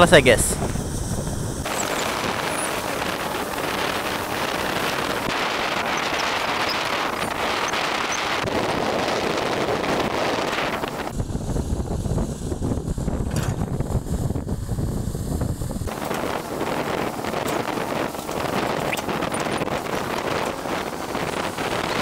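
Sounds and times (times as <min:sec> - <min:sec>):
excavator engine running: 0:00.0 - 0:22.0
wind on microphone: 0:00.0 - 0:22.0.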